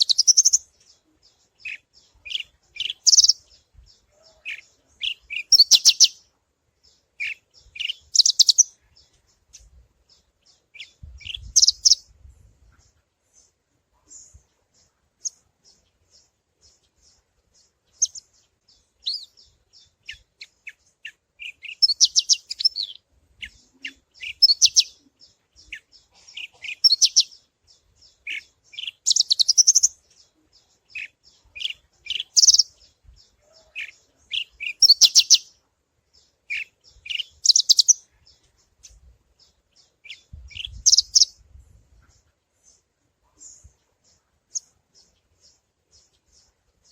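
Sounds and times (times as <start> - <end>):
lark chirps and trills: 0.0 - 6.3, 6.9 - 12.1, 14.0 - 35.6, 36.2 - 41.4.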